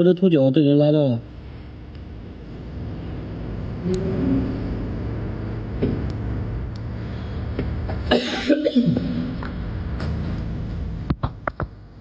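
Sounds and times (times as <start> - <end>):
engine running: 1.2 - 12.0.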